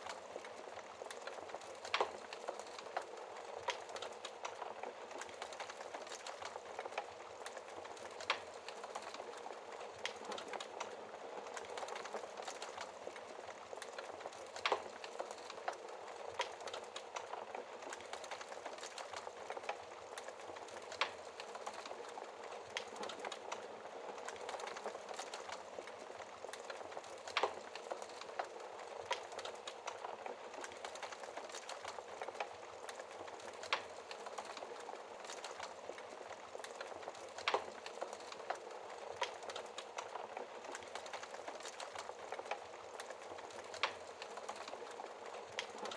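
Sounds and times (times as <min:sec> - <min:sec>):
fire crackling: 0:00.0 - 0:45.9.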